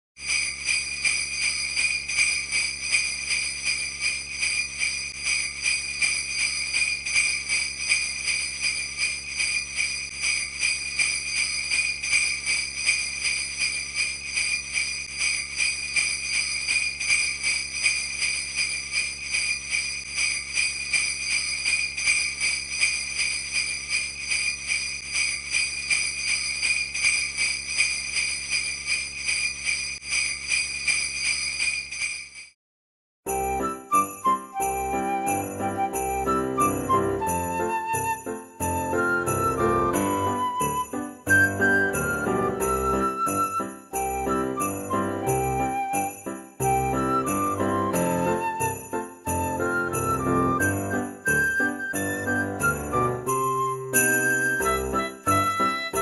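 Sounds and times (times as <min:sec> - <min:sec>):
sleigh bells jingling: 0:00.2 - 0:32.6, 0:33.3 - 0:56.0.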